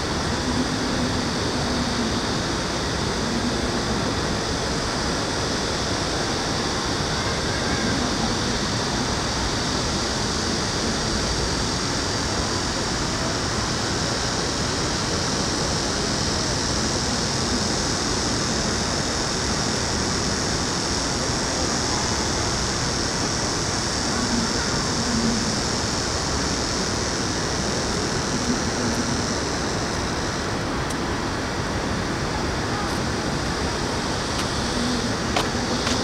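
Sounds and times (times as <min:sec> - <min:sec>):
high hiss: 0:00.0 - 0:36.0
urban noise: 0:00.0 - 0:36.0.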